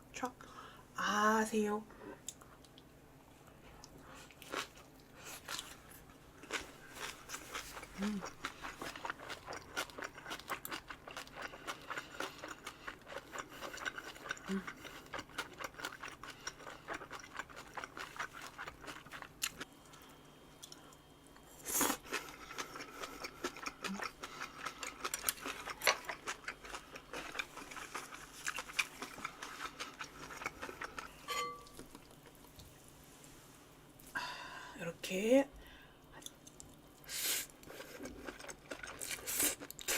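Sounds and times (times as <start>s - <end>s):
chewing and crunching food: 2.2s - 32.8s, 36.1s - 39.9s.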